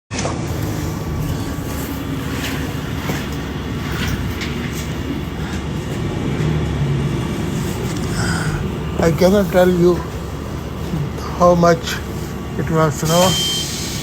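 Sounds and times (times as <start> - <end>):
bus engine and road rumble: 0.2 - 14.0
faint rattles: 0.5 - 14.0.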